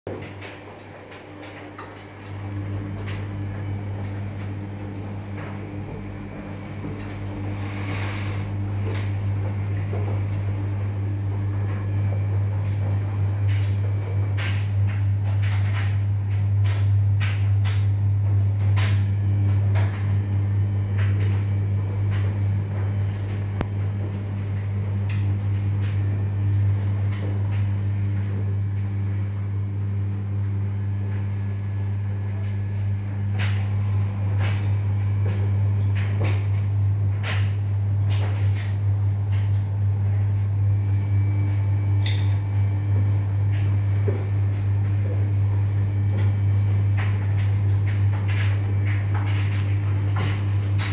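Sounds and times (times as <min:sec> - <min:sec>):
steady low hum: 0:00.1 - 0:50.9.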